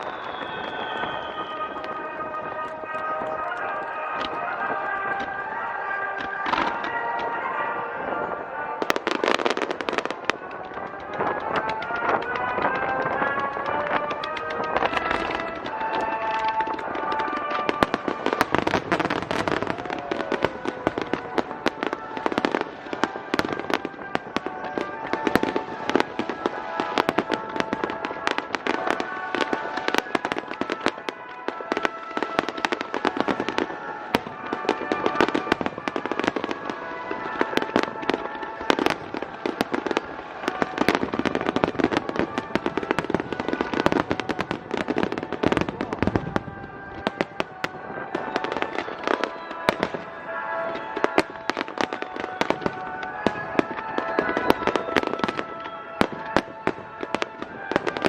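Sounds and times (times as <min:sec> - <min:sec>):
fireworks bangs and crackling: 0:00.0 - 0:58.0
music playing: 0:00.0 - 0:58.0.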